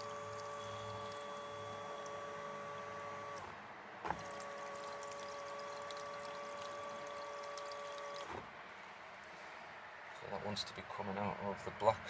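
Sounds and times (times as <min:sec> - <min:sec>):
fuel pump whining: 0:00.0 - 0:10.4.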